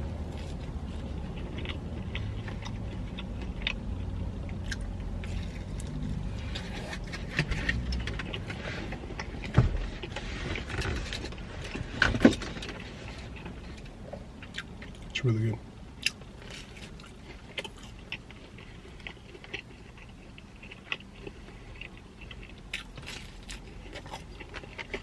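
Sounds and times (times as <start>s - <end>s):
pizza being chewed: 0.0s - 25.0s
steady low rumble: 0.0s - 25.0s.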